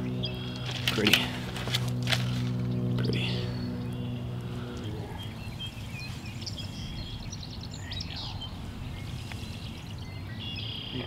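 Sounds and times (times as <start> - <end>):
low steady rumble: 0.0 - 10.9
songbirds chirping: 0.0 - 11.0.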